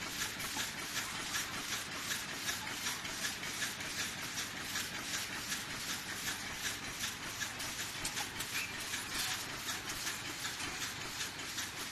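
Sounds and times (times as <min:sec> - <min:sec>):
repeating machine clatter: 0:00.0 - 0:11.9.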